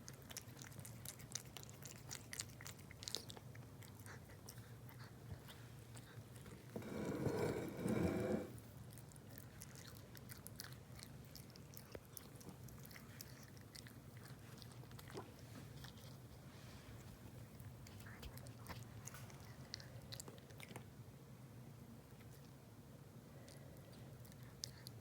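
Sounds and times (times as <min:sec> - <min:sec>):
cat chewing food: 0:00.0 - 0:21.0, 0:22.0 - 0:25.0.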